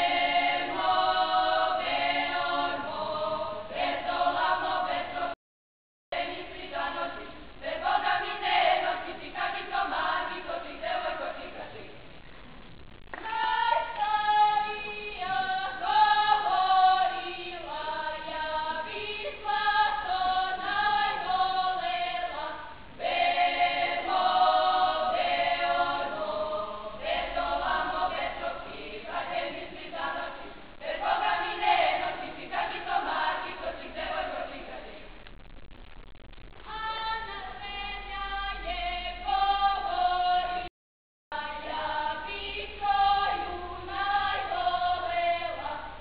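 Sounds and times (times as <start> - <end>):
women singing together unaccompanied: 0.0 - 5.4, 6.1 - 12.0, 13.1 - 35.1, 36.7 - 40.7, 41.3 - 46.0.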